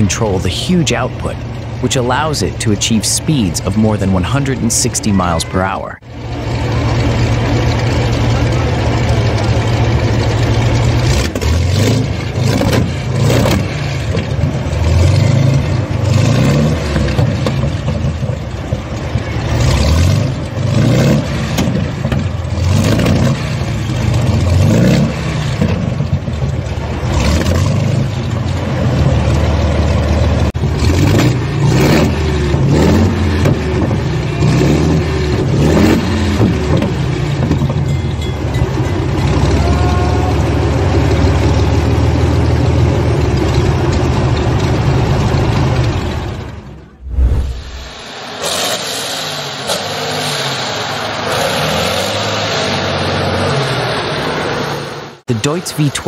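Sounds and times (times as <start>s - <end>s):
engine revving and idling: 0.0s - 56.0s.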